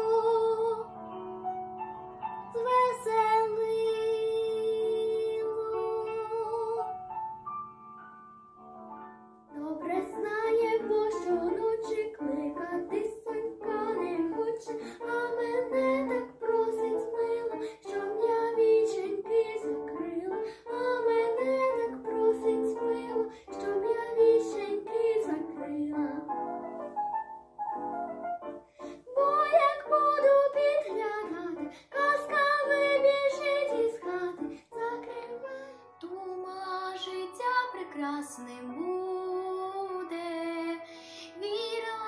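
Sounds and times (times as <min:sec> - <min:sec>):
girl singing: 0:00.0 - 0:00.9, 0:02.5 - 0:07.0, 0:09.5 - 0:26.4, 0:28.8 - 0:42.0
instrumental accompaniment: 0:00.0 - 0:39.7.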